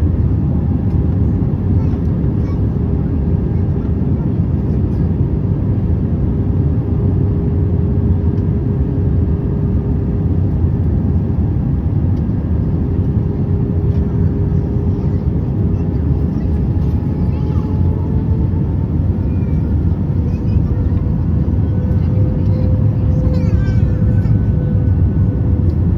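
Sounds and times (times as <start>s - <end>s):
airplane cabin roar: 0.0s - 25.9s
constant hum: 0.0s - 25.9s.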